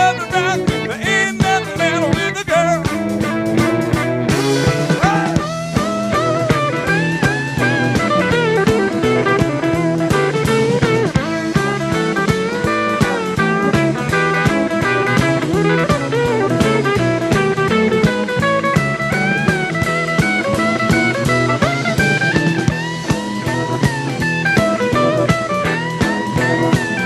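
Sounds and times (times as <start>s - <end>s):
bass guitar: 0.0s - 27.0s
lead guitar with bent notes: 0.0s - 27.0s
steady drum beat: 0.0s - 27.0s.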